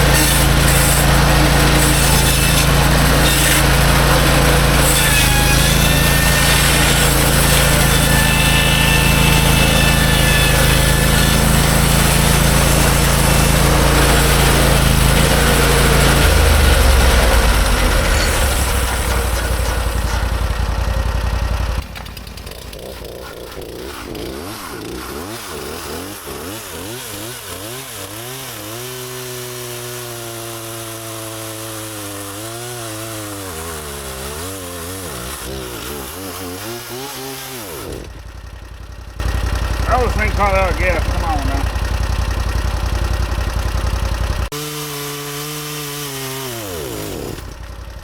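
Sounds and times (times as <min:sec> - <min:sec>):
bandsaw mill engine cutting log: 0:00.0 - 0:48.0.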